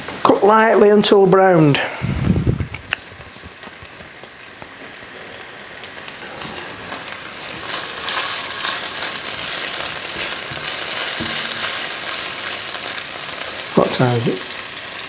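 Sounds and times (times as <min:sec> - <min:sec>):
food sizzling in a frying pan: 0:02.5 - 0:15.0.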